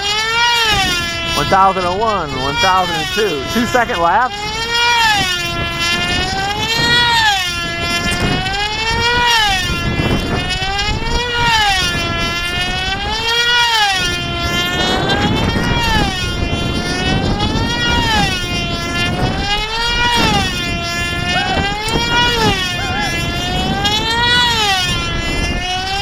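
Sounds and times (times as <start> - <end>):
model airplane engine buzzing: 0.0 - 26.0.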